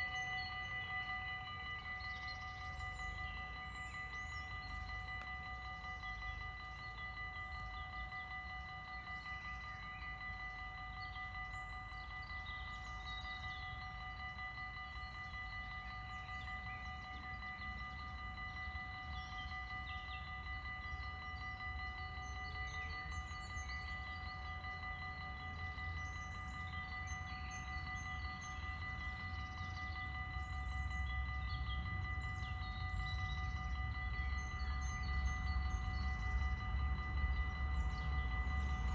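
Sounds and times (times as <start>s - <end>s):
birds chirping: 0.0s - 38.9s
level crossing bells ringing: 0.0s - 38.9s.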